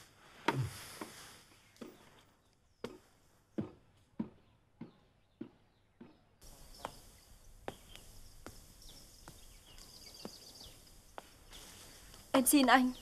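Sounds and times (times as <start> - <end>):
birds chirping: 0.6 - 13.0.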